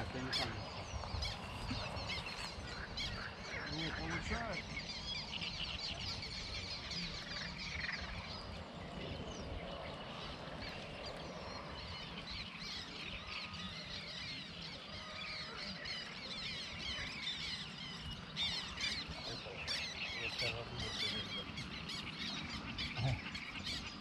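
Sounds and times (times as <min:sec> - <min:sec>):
birds chirping and whistling: 0:00.0 - 0:24.0.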